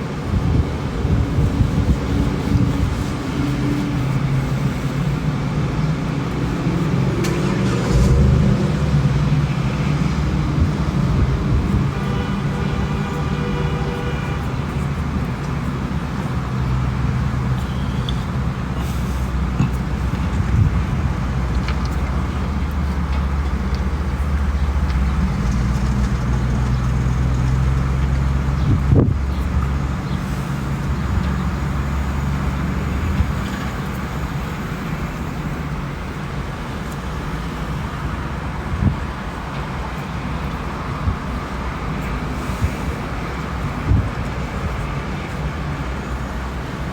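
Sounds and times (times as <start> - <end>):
vehicle engine rumbling: 0.0 - 46.9.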